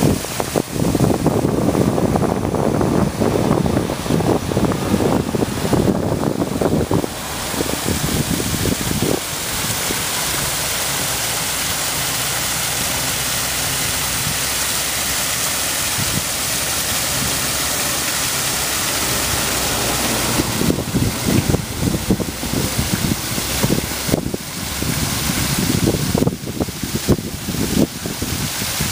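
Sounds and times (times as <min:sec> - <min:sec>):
water rushing under ice: 0:00.0 - 0:28.9
wind buffeting microphone: 0:00.0 - 0:28.9.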